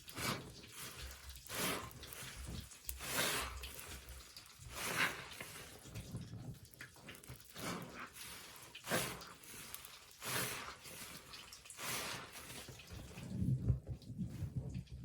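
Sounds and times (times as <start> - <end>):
sponge squishing: 0.0 - 14.8.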